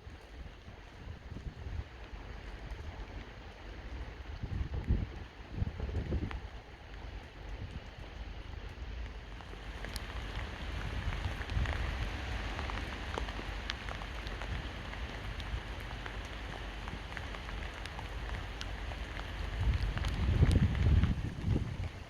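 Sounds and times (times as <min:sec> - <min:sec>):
raindrops ticking close by: 0:00.0 - 0:22.0
steady rain hiss: 0:00.0 - 0:22.0.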